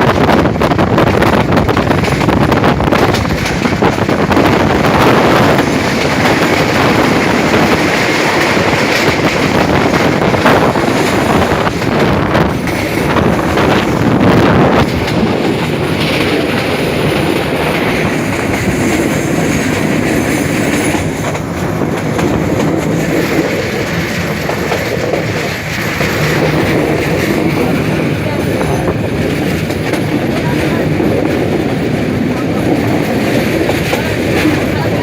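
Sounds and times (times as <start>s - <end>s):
train wheels on rails: 0.0s - 35.0s.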